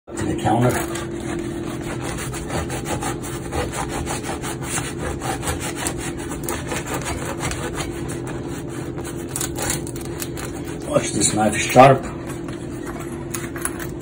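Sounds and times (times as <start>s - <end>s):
bread knife sawing through crust: 0.2s - 12.8s.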